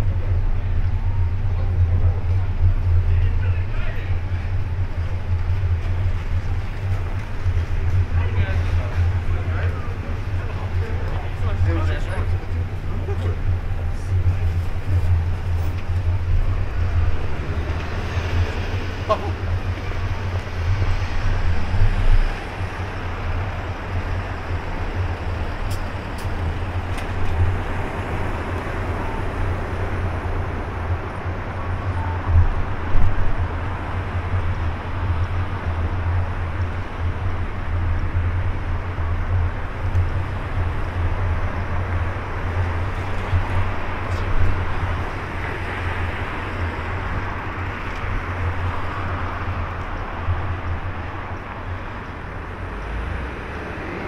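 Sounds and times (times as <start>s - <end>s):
rumble of traffic: 0.0s - 54.0s
vehicles passing: 0.0s - 54.0s.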